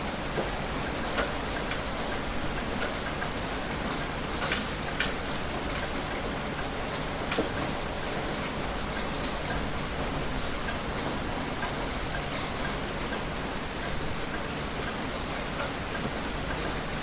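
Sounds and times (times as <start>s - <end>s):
raindrops hitting a surface: 0.0s - 17.0s.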